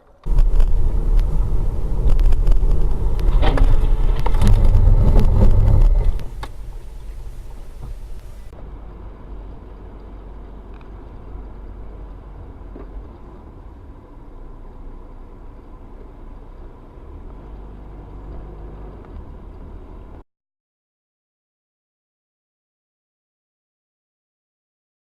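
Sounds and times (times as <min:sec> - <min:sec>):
car engine and road noise: 0:00.0 - 0:20.2.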